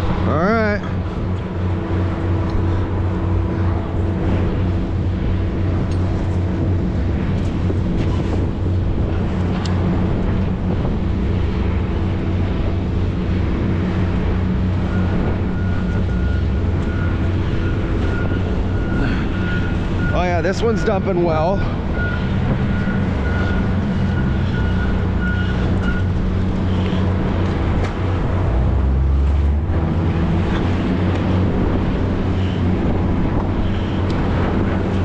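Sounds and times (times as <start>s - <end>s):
boat engines droning: 0.0s - 35.0s.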